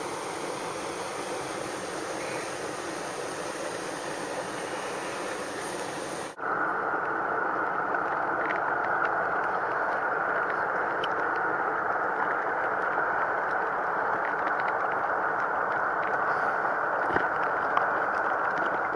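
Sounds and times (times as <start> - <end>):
mountain stream flowing: 0.0 - 18.9.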